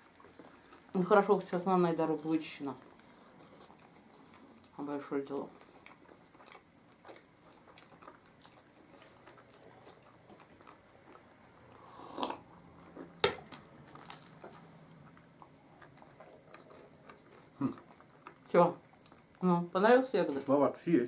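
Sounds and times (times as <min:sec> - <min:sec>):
soft chewing: 0:00.0 - 0:19.4.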